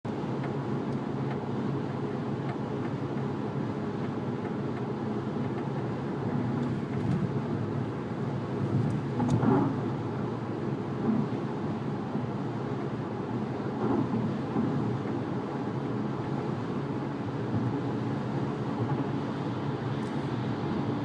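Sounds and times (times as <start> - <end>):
car running and road noise: 0.1 - 21.0.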